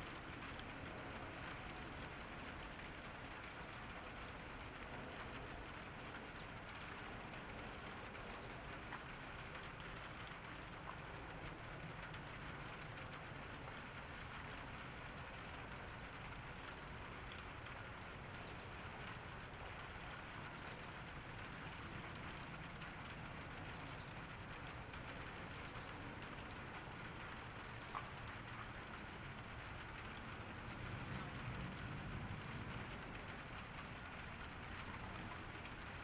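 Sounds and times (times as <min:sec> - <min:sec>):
raindrops ticking on surfaces: 0:00.0 - 0:36.0
steady rain hiss: 0:00.0 - 0:36.0.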